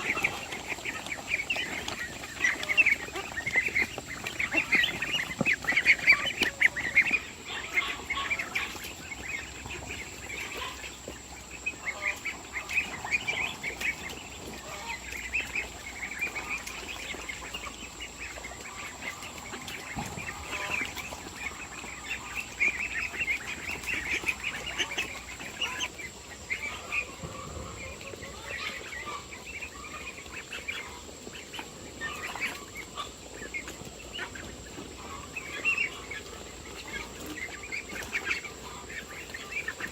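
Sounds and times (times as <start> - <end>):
poultry calling: 0.0 - 39.9.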